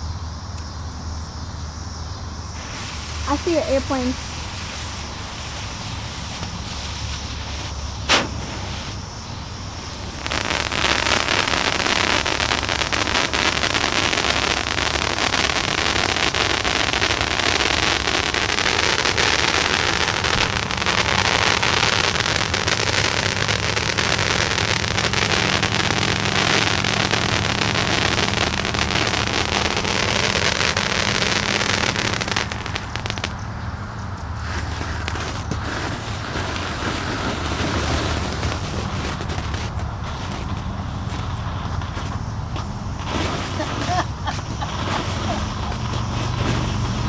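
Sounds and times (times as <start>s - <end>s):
fireworks crackling: 0.0s - 0.8s, 2.2s - 47.0s.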